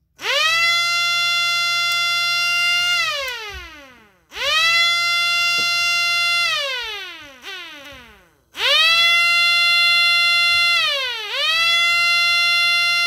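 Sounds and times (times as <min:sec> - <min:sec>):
small siren wailing: 0:00.3 - 0:08.0, 0:08.6 - 0:13.0.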